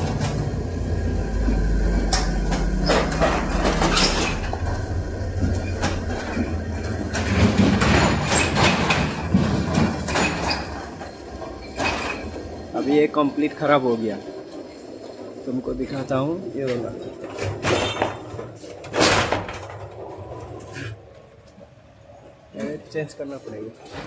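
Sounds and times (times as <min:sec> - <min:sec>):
metal rolling shutter rattling: 0:00.0 - 0:24.0.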